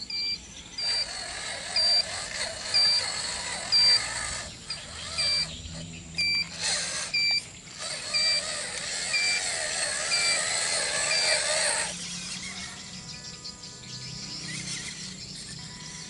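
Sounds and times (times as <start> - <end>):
electronic toy beeps: 0.0 - 12.6, 14.7 - 16.0
faint steady hum: 0.0 - 16.0.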